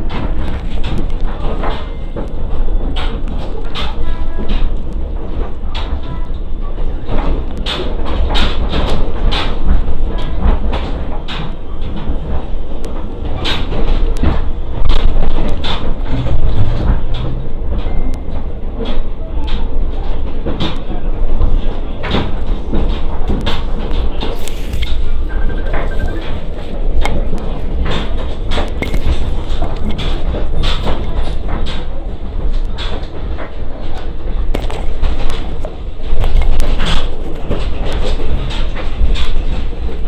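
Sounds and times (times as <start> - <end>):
knocks and clatter of train car: 0.0 - 40.0
train wheels rumbling: 0.0 - 40.0.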